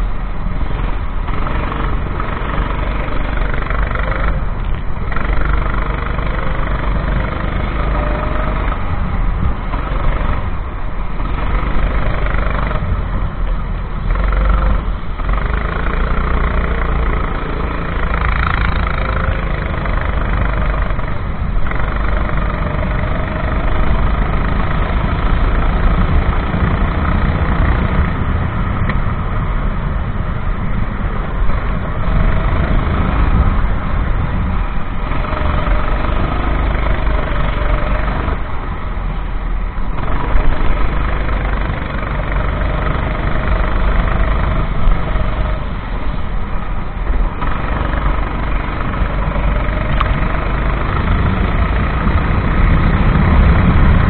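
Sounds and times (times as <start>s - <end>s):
dense rushing noise: 0.0s - 54.0s
kart engine revving: 0.0s - 54.0s.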